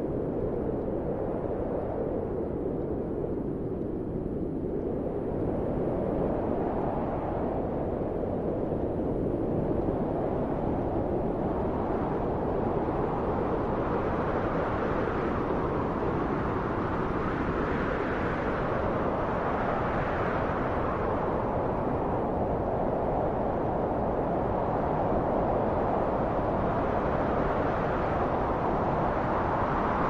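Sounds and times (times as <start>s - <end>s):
steady wind blowing: 0.0s - 30.0s.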